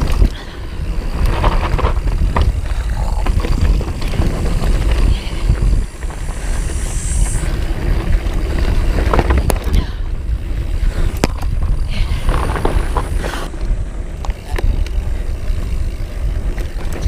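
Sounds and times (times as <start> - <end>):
stones and bike rattling: 0.0 - 17.0
tyres crunching over gravel: 0.0 - 17.0
wind and trail rumble: 0.0 - 17.0.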